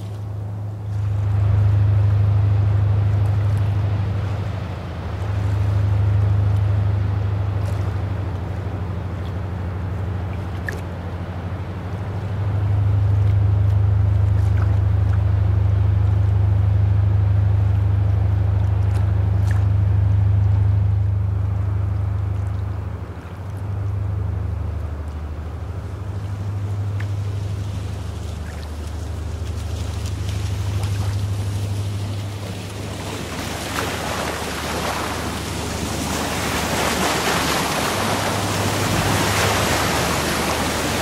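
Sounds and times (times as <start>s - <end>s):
tugboat diesel engines droning: 0.0s - 41.0s.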